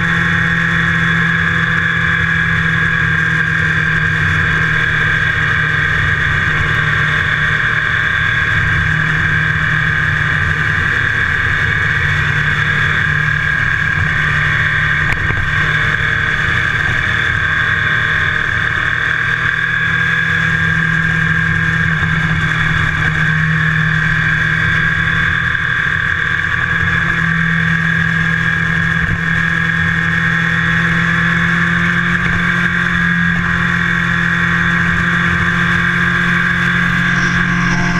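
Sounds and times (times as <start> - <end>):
motorcycle engine cruising: 0.0 - 37.9
wind rush and road noise: 0.0 - 37.9.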